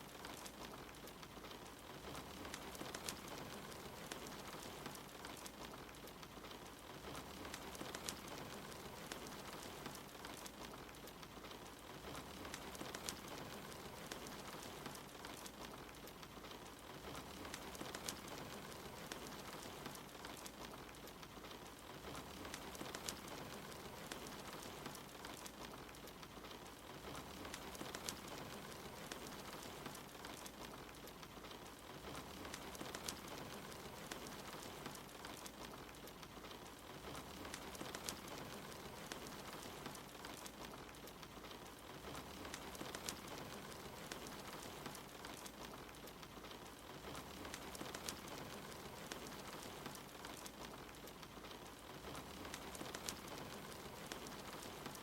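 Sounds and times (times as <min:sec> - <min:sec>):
steady rain: 0:00.0 - 0:55.0
wood fire crackling and popping: 0:00.0 - 0:55.0.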